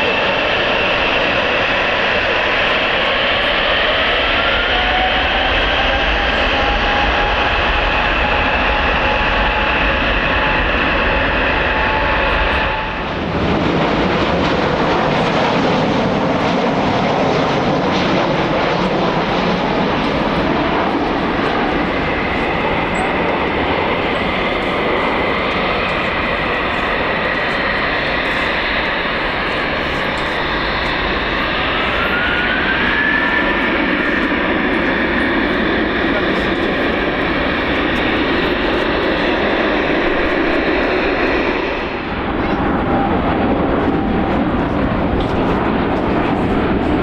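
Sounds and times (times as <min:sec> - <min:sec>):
jet engines whining: 0:00.0 - 0:47.0.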